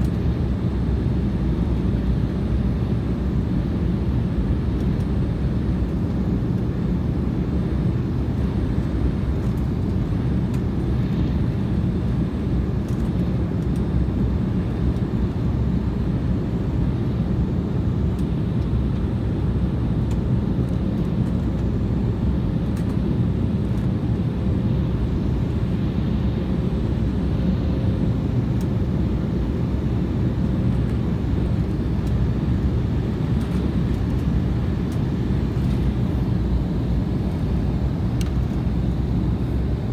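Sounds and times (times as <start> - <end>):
airliner engines rumbling: 0.0 - 39.9
faint steady hum: 0.0 - 39.9.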